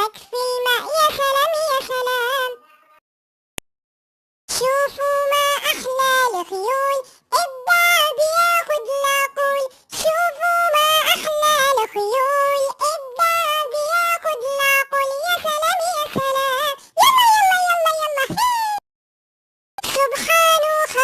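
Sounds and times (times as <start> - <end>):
processed high singing voice: 0.0 - 3.0, 4.5 - 18.8, 19.8 - 21.0.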